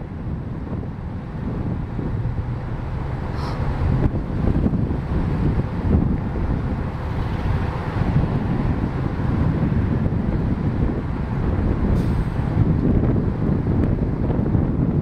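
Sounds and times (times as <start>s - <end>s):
car traffic: 0.0s - 15.0s
diesel bus engine: 0.0s - 15.0s
wind rumbling on microphone: 0.0s - 15.0s.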